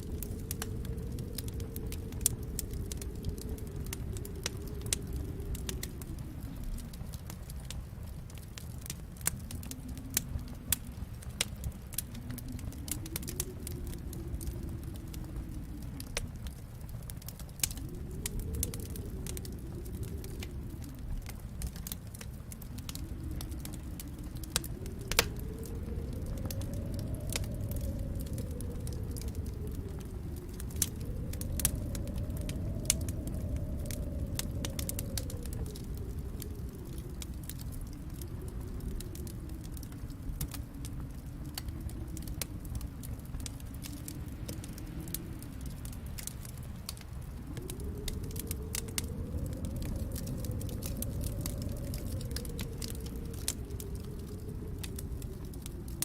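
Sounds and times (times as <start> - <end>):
low rushing noise: 0.0 - 56.0
wood fire crackling and popping: 0.0 - 56.0.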